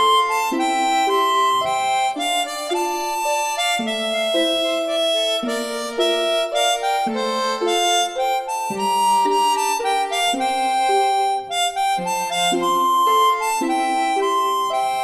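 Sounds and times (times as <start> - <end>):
reedy wind instrument melody: 0.0 - 15.0.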